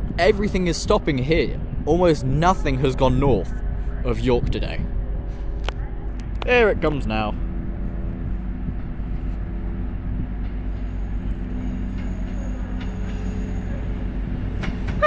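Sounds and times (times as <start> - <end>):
train diesel engines droning: 0.0 - 15.0.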